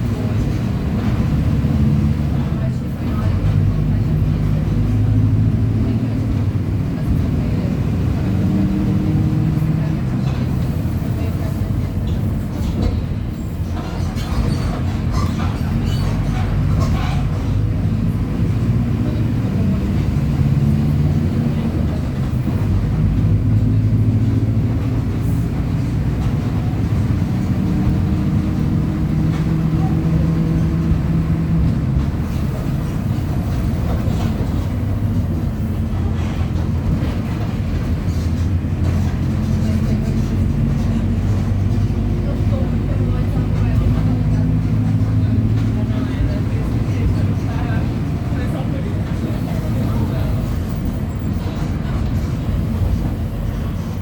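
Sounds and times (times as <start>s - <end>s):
bus engine running at high revs: 0.0s - 54.0s.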